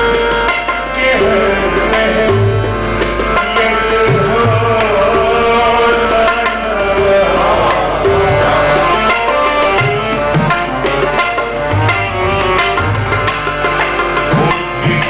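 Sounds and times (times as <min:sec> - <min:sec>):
harmonium chords and melody: 0:00.0 - 0:15.0
tabla drumming: 0:00.0 - 0:15.0.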